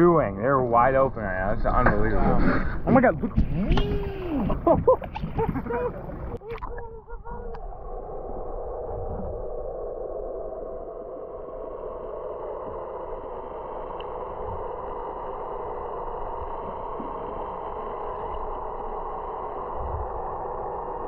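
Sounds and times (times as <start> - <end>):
faint low rumble: 0.0 - 21.0
muffled underwater noise: 0.6 - 21.0.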